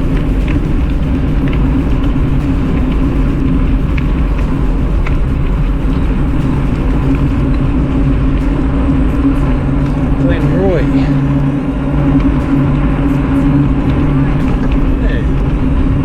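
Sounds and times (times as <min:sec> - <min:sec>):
e-bike rolling rumble: 0:00.0 - 0:16.0
wind buffeting microphone: 0:00.0 - 0:16.0.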